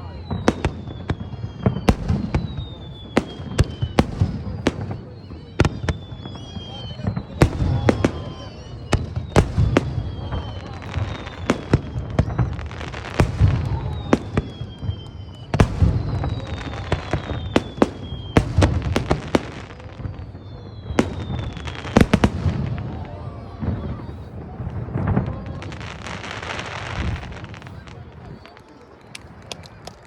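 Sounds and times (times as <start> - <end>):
descending firework whistles: 0.0 - 30.0
fireworks bangs and booms: 0.0 - 30.0.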